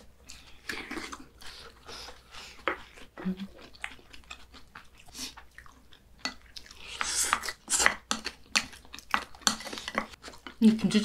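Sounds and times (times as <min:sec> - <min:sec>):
chewing and mouth noises: 0:00.0 - 0:11.0.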